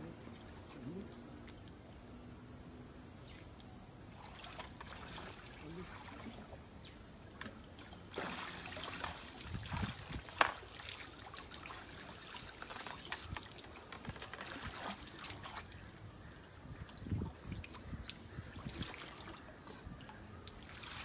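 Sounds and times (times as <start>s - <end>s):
water splashing and trickling: 0.0s - 21.0s.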